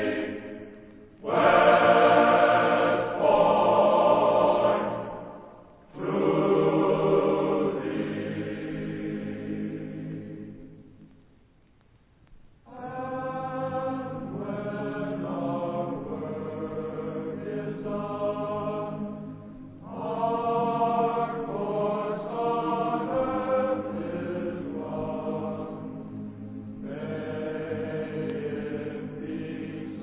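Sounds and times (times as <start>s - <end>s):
slow choral singing: 0.0s - 11.2s, 12.6s - 30.0s.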